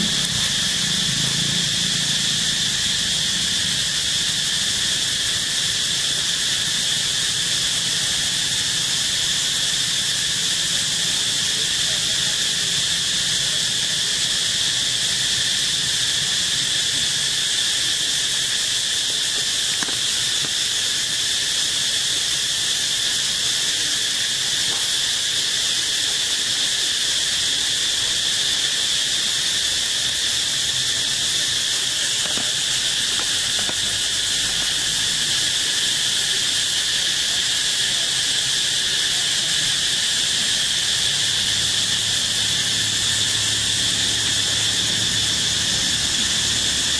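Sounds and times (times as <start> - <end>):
insect chorus drone: 0.0 - 46.9.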